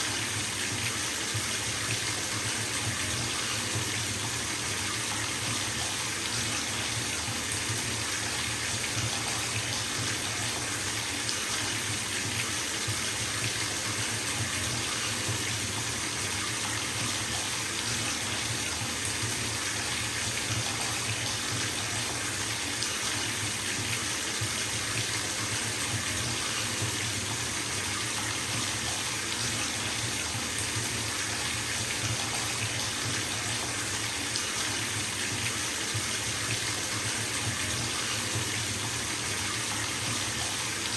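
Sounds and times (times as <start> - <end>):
water pouring into bathtub: 0.0 - 40.9.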